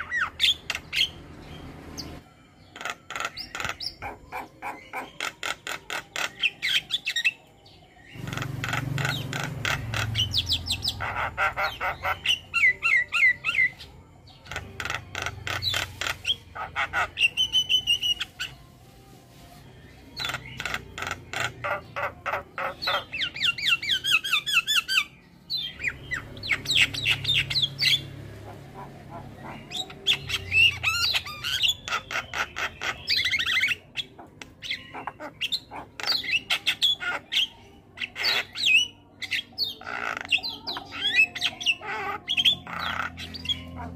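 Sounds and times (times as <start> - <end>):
bird chattering and whistling: 0.0 - 1.3, 1.9 - 7.4, 8.1 - 18.6, 20.0 - 43.9.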